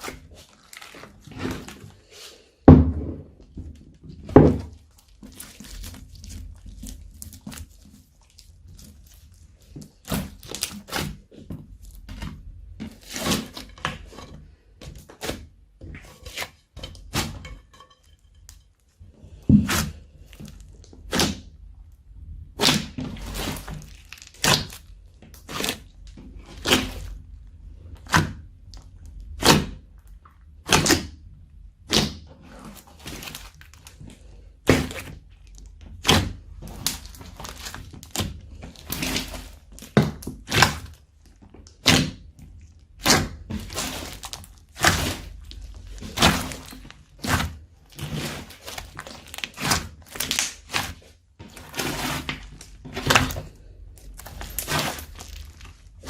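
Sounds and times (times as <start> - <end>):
slime squishing with pops: 0.0 - 2.0, 3.4 - 17.5, 18.4 - 56.0.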